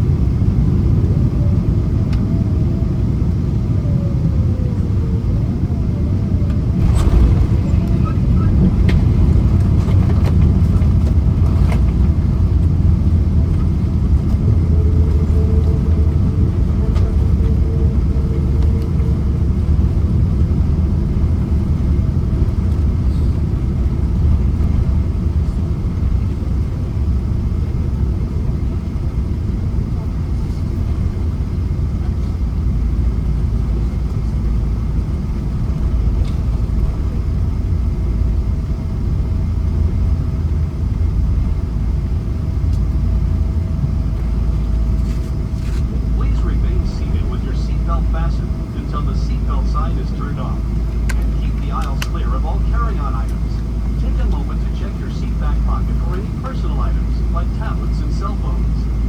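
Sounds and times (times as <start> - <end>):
airliner engines rumbling: 0.0 - 59.0
wheels rumbling on runway: 0.0 - 59.0.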